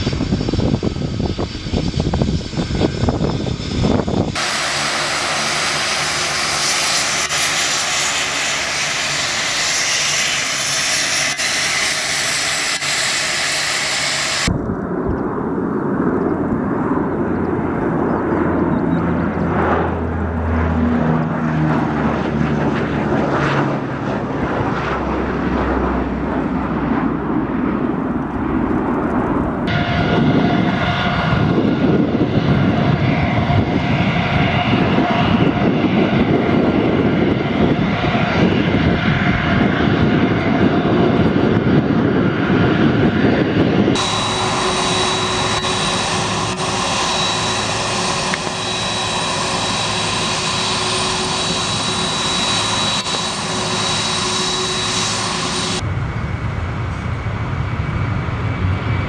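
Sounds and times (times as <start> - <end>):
jet engine high whine: 0.0 - 59.0
jet engines rumbling: 0.0 - 59.0.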